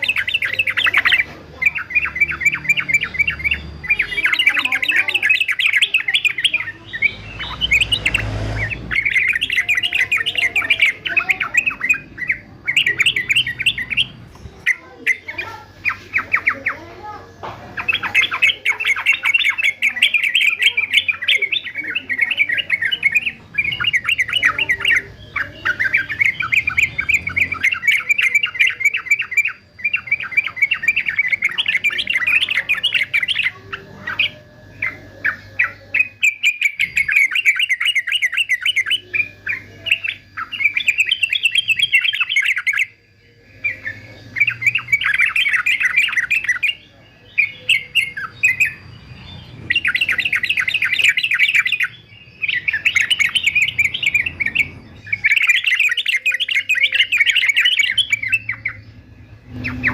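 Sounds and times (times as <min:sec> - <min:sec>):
bird singing chattering phrases: 0:00.0 - 0:59.9.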